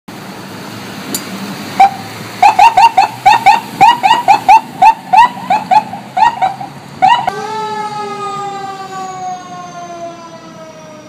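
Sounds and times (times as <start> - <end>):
low traffic rumble: 0.1 - 11.0
siren chirps: 1.8 - 11.0.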